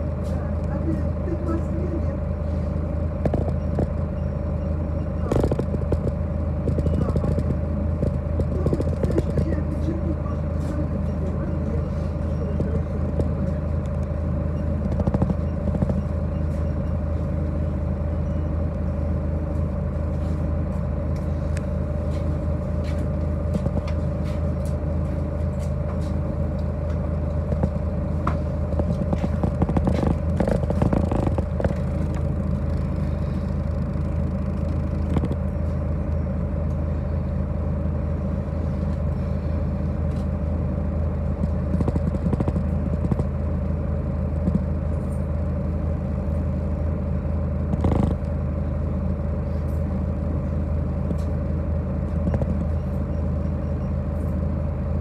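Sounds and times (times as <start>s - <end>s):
bus body rattling: 0.0s - 55.0s
bus engine drone: 0.0s - 55.0s.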